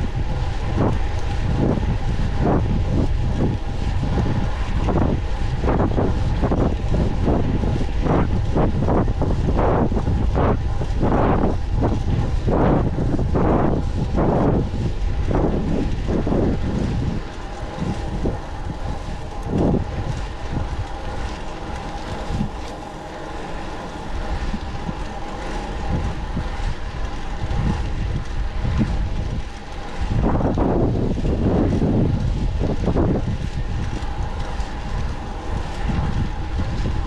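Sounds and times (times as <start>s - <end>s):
steady mid-pitched hum: 0.0s - 37.0s
wind buffeting microphone: 0.0s - 37.0s.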